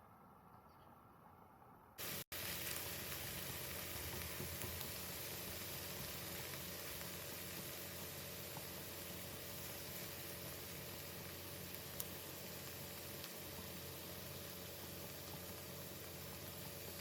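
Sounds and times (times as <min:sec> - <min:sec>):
food sizzling in a pan: 0:02.0 - 0:17.0.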